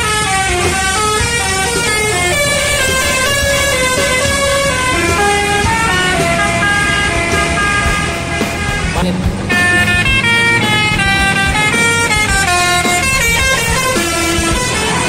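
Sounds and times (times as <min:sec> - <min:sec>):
bus horn playing a melody: 0:00.0 - 0:15.0
low bus engine: 0:00.0 - 0:15.0.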